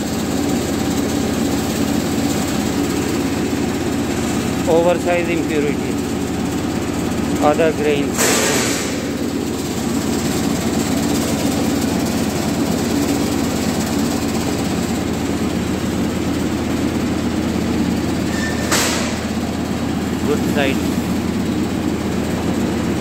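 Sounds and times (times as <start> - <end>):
vibrating grader motor hum: 0.0 - 23.0.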